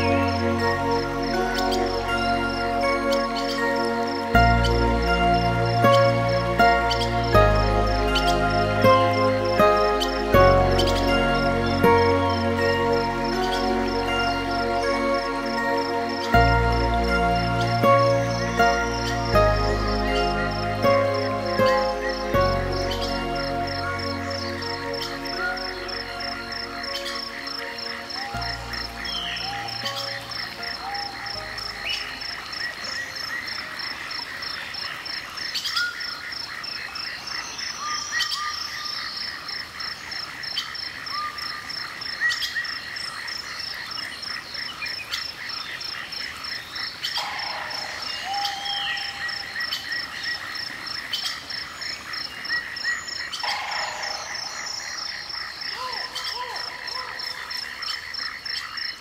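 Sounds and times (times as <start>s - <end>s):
frogs trilling: 0.0s - 59.0s.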